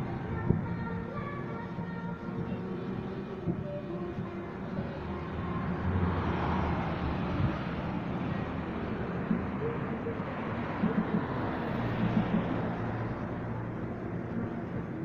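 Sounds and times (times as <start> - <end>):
passing vehicles rumbling: 0.0 - 15.0.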